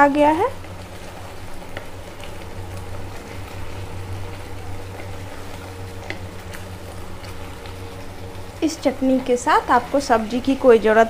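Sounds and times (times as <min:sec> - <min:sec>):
chutney bubbling in pan: 0:00.0 - 0:11.0
low hum: 0:00.0 - 0:11.0.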